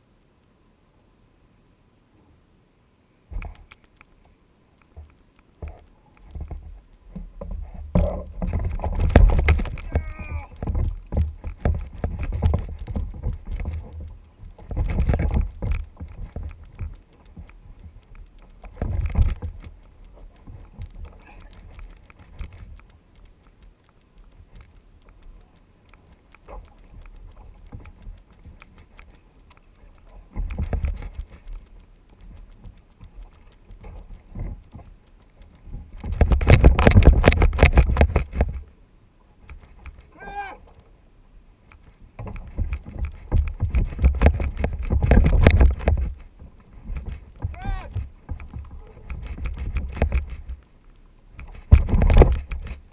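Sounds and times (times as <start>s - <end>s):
quiet water noise: 0.0s - 52.9s.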